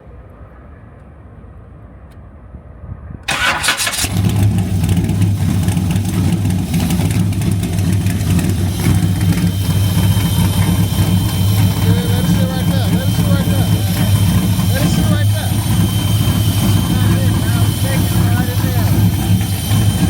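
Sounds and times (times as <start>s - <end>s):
car engine starting and idling: 3.3s - 20.0s.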